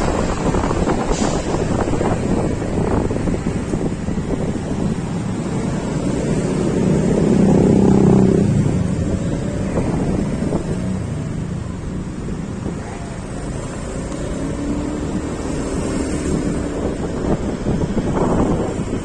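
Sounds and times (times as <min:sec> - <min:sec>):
road traffic noise: 0:00.0 - 0:19.0
vehicle engine: 0:00.0 - 0:19.0
wind buffeting microphone: 0:00.0 - 0:19.0.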